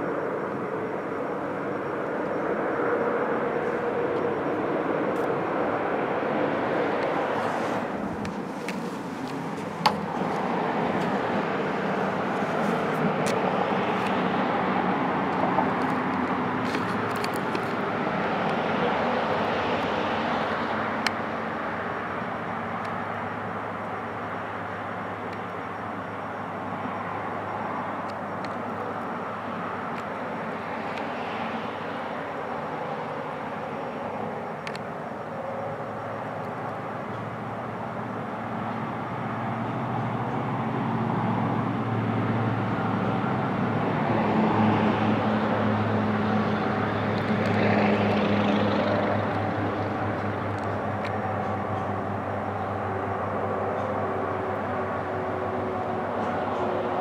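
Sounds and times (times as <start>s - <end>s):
distant engine drone: 0.0s - 57.0s.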